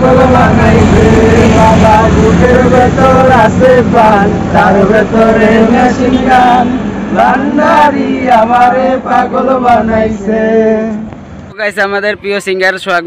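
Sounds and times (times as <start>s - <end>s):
man singing loudly: 0.0s - 11.0s.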